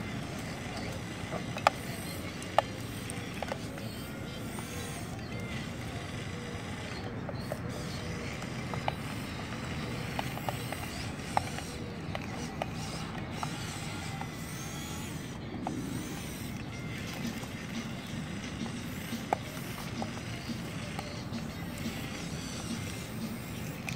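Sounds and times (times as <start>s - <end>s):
electric motors whirring: 0.0s - 23.9s.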